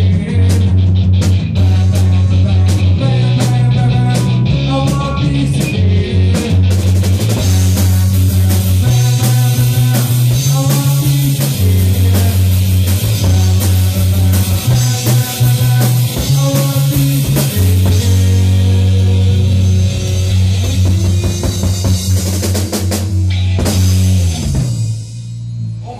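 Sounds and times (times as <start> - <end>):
drum kit with cymbals: 0.0 - 25.9
electric guitar: 0.0 - 25.9
heavy bass line: 0.0 - 25.9.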